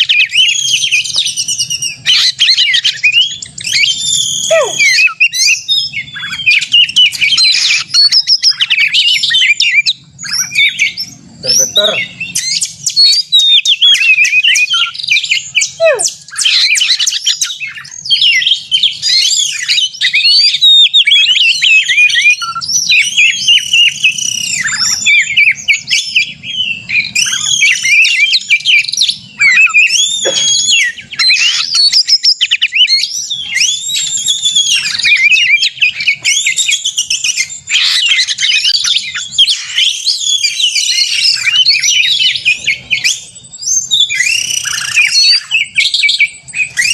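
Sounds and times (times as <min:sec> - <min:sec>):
bird singing whistles and trills: 0:00.0 - 0:46.9.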